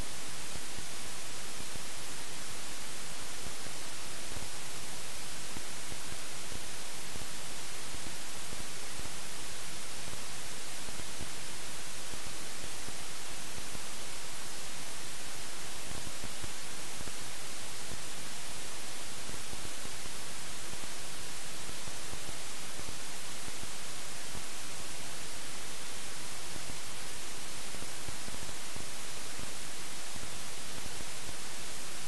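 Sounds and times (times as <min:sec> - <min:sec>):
static hiss: 0:00.0 - 0:32.0.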